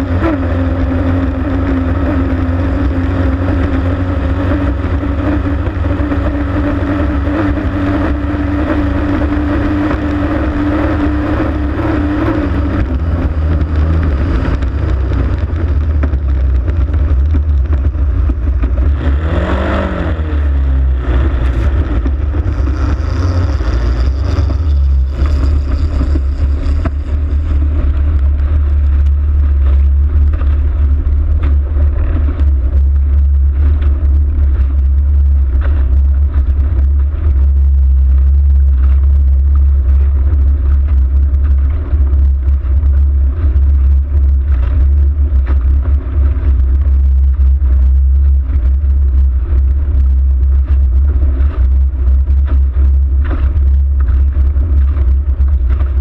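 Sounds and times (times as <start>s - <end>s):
boat engine running flat out: 0.0s - 56.0s
heavy low rumble: 0.0s - 56.0s.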